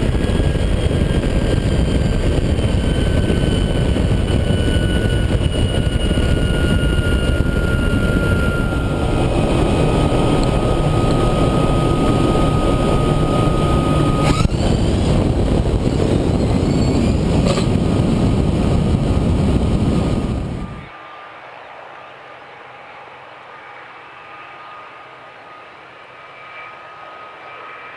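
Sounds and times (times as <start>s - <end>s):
jet engine roar and whine: 0.0s - 27.9s.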